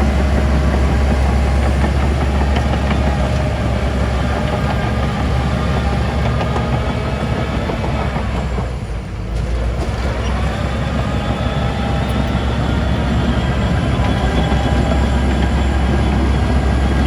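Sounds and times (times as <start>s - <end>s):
diesel construction machine running: 0.0s - 17.0s.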